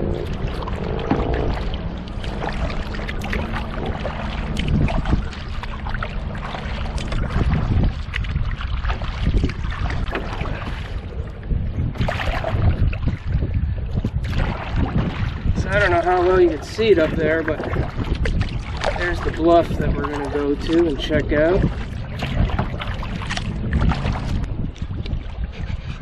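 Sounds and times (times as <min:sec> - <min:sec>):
paddle splashing in water: 0:00.0 - 0:26.0
wind on microphone: 0:00.0 - 0:26.0.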